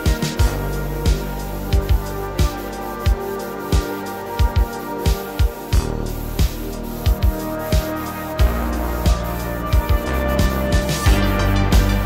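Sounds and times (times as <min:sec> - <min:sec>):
background music with kick-drum beat: 0:00.0 - 0:12.0.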